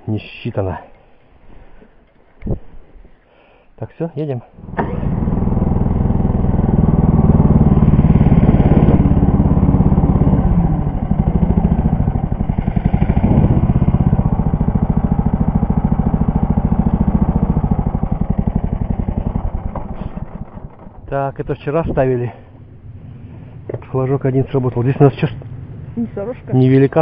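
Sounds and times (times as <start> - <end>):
snow tow engine running: 4.6 - 21.8, 22.4 - 27.0.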